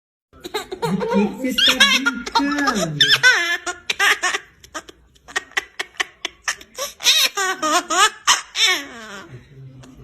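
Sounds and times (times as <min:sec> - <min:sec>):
baby laughing: 0:00.4 - 0:09.3.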